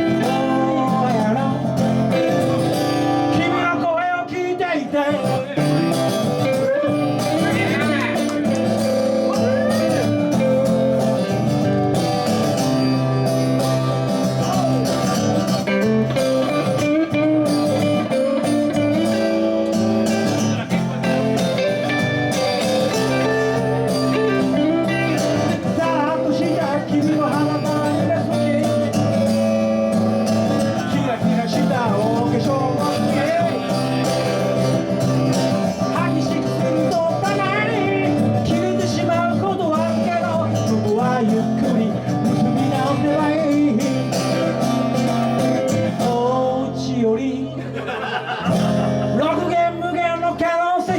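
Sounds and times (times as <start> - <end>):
live blues band with guitar: 0.0 - 50.9.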